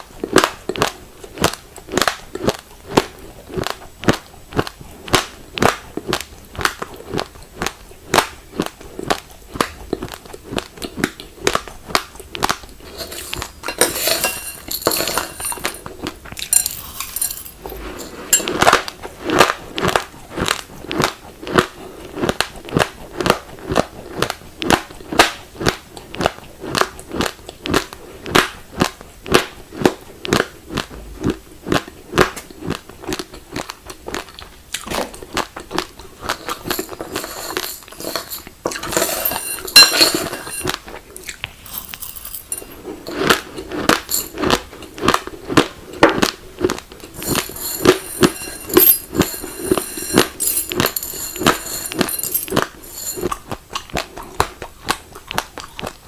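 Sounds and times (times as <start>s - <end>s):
rice grains being chewed: 0.2s - 13.7s, 15.6s - 39.0s, 40.6s - 56.0s.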